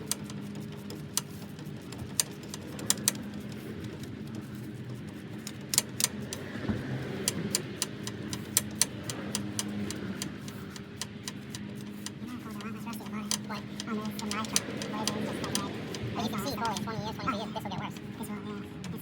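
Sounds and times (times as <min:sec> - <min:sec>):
hand tools clicking metallically: 0:00.0 - 0:19.0
steady low hum: 0:00.0 - 0:19.0.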